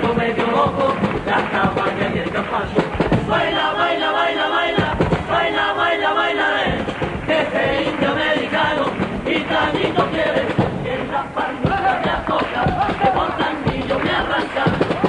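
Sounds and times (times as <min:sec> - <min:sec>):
chorus singing in unison: 0:00.0 - 0:15.0
drum beats: 0:00.0 - 0:15.0.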